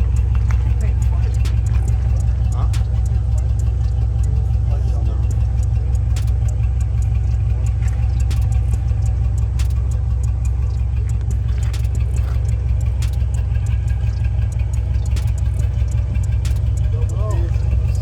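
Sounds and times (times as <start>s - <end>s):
faint clicks: 0.0s - 16.9s
car engine idling: 0.0s - 18.0s.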